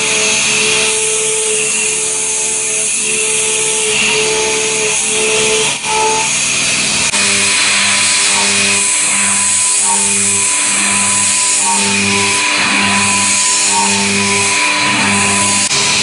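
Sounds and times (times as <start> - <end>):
cnc machine cutting: 0.0 - 16.0
humming machine tone: 0.0 - 16.0.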